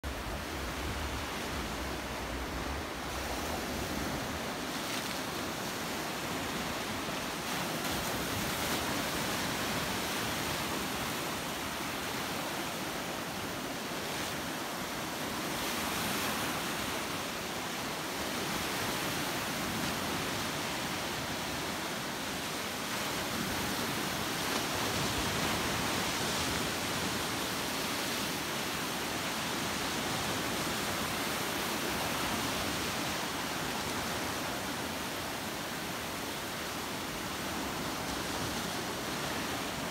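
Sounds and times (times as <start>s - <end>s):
waves breaking in shallows: 0.1s - 39.9s.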